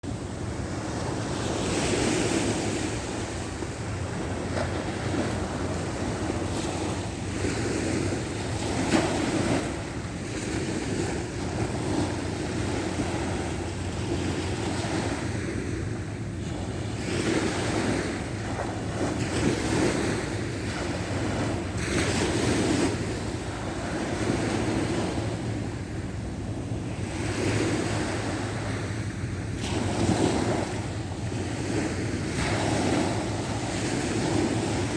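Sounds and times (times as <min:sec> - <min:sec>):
sea waves breaking on shore: 0:00.0 - 0:34.9
wind rumble on microphone: 0:00.0 - 0:34.9.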